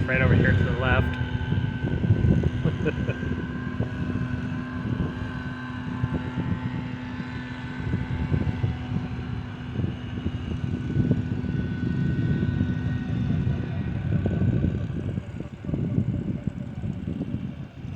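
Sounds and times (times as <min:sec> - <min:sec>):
maintenance machinery engine drone: 0:00.0 - 0:17.9.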